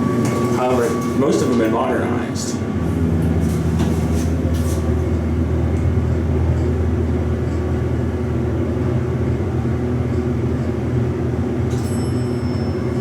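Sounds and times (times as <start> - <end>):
subway station low rumble: 0.0 - 13.0.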